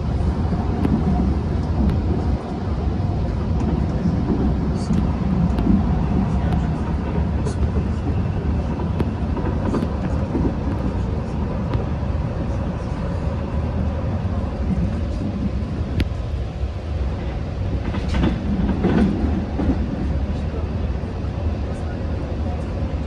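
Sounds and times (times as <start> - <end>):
train rumbling at speed: 0.0 - 23.0.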